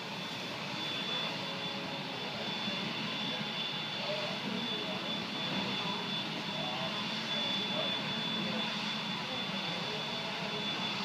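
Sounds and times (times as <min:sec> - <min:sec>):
jet aircraft whine and rumble: 0:00.0 - 0:11.0.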